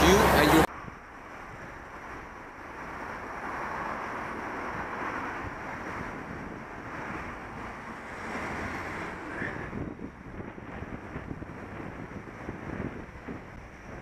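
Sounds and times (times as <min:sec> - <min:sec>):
road and traffic noise: 0:00.0 - 0:14.0
wind rush on microphone: 0:00.1 - 0:14.0.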